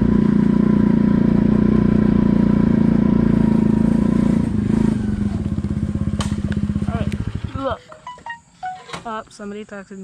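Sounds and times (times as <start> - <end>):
pit bike engine running: 0.0 - 8.2.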